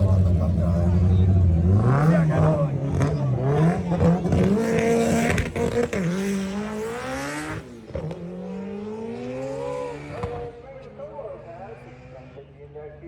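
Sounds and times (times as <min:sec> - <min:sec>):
car engine accelerating hard: 0:00.0 - 0:10.6.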